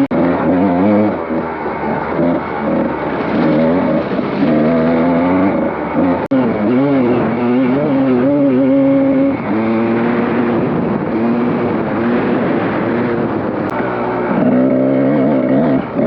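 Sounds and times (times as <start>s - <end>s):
dirt bike engine revving: 0.0s - 16.0s
steady rush of noise: 0.0s - 16.0s.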